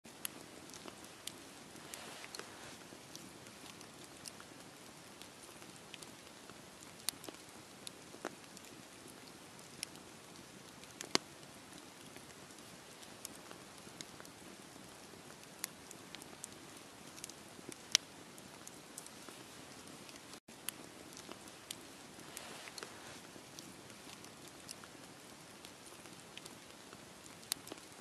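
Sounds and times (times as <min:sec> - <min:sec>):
fire crackling and popping: 0:00.1 - 0:28.0
wood fire hissing: 0:00.2 - 0:28.0.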